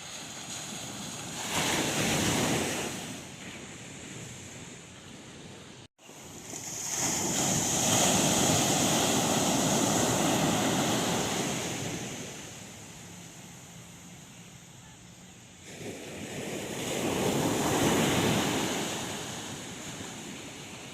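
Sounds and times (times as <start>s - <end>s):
sea waves breaking on beach: 0.0s - 4.9s, 5.9s - 14.3s, 15.6s - 20.9s.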